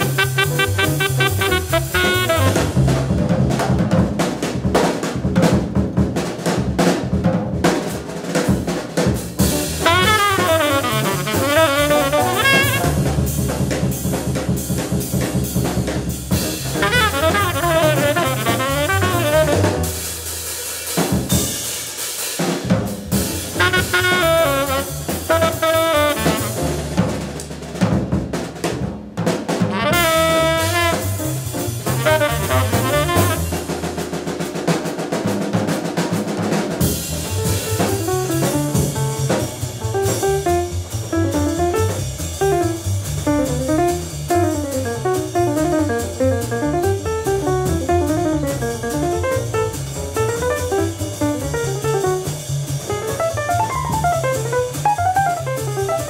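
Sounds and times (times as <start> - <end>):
drum kit breaks: 0.0 - 56.0
jazz band playing: 0.0 - 56.0.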